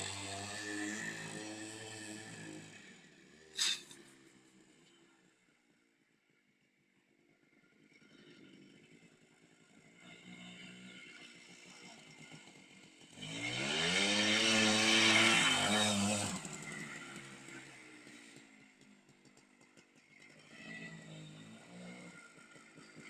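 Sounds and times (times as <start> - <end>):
motorcycle engine accelerating: 0.0 - 5.0, 7.7 - 23.0.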